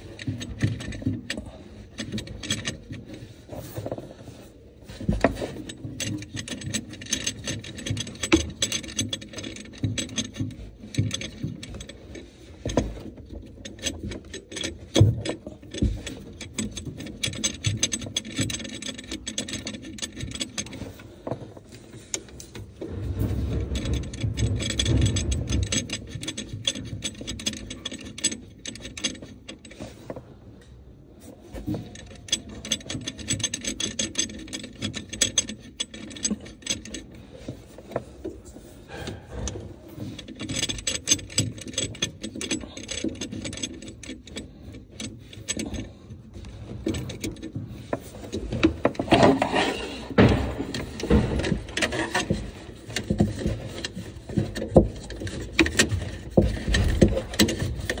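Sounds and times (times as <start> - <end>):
rapid ratcheting clicks: 0.0 - 3.2, 5.0 - 21.0, 22.1 - 29.9, 31.6 - 38.0, 38.9 - 58.0
hoses rubbing and bumping: 0.0 - 30.3, 31.2 - 58.0.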